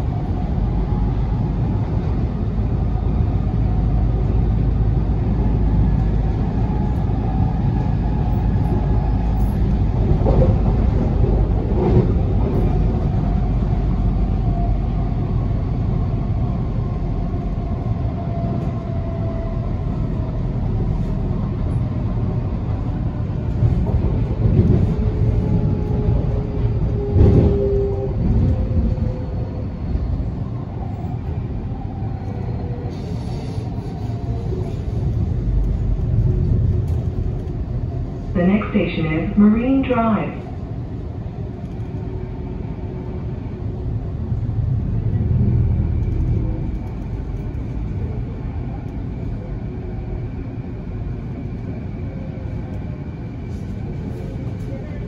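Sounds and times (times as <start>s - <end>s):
train rumbling with whine: 0.0s - 55.0s.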